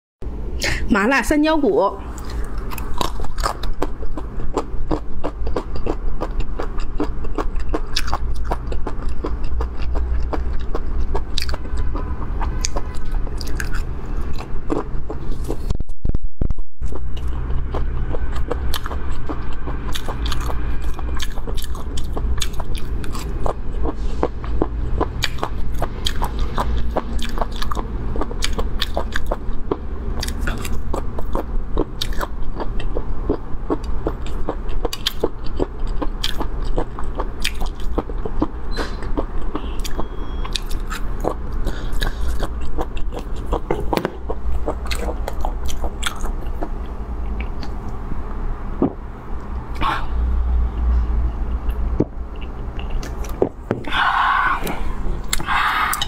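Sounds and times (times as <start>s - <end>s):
low steady hum: 0.2s - 56.0s
close chewing and crunching: 2.1s - 15.8s, 16.8s - 47.9s, 50.8s - 56.0s.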